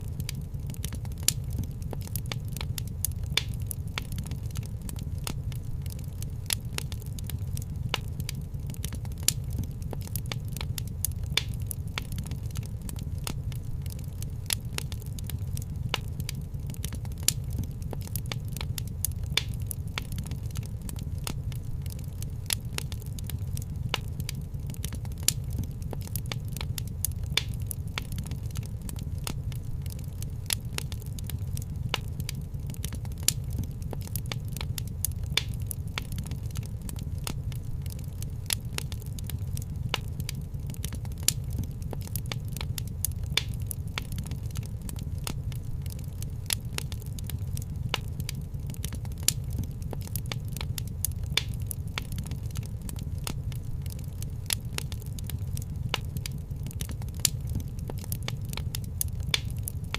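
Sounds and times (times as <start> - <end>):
fire popping: 0.0 - 59.9
low rumble of flames: 0.0 - 59.9
wood fire crackling: 0.0 - 59.9.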